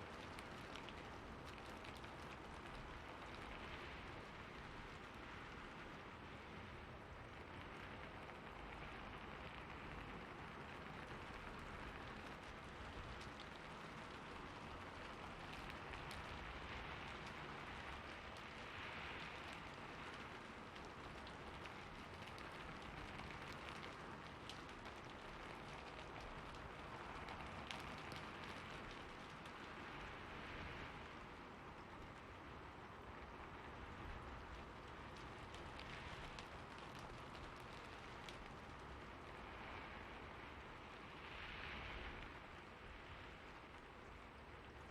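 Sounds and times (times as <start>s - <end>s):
faint raindrop ticks: 0.0s - 44.9s
rain hiss: 0.0s - 44.9s.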